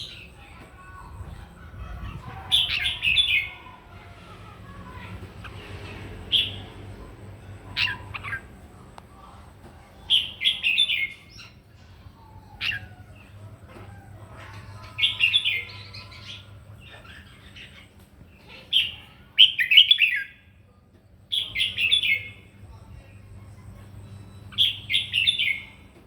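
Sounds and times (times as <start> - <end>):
bird singing warbled phrases: 0.0 - 13.6, 14.5 - 26.0.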